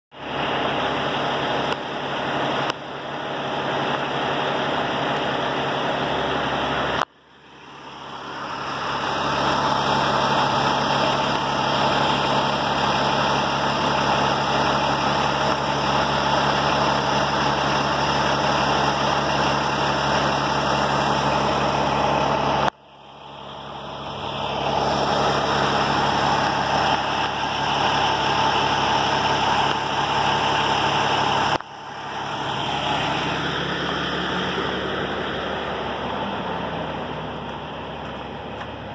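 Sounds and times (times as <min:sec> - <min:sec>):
diesel engine idling: 0:00.1 - 0:38.9.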